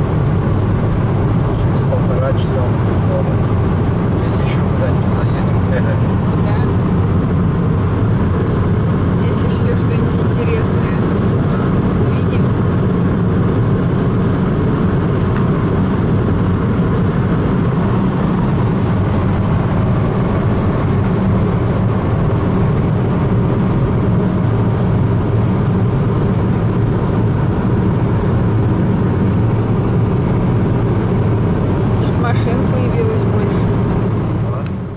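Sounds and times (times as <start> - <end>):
car driving road and engine noise: 0.0 - 34.9.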